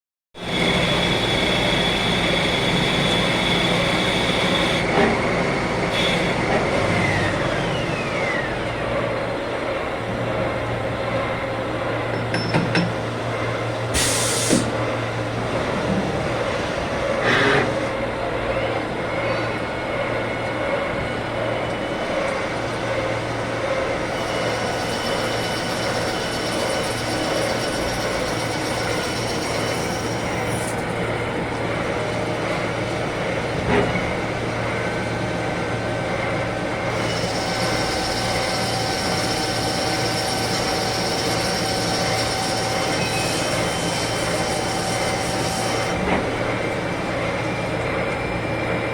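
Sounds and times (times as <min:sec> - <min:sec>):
lathe humming: 0:00.4 - 0:13.9, 0:22.0 - 0:48.9
machine whine: 0:00.4 - 0:48.9.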